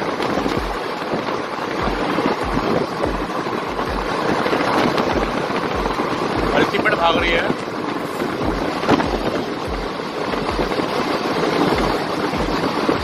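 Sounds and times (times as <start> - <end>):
wind rushing: 0.0 - 13.0.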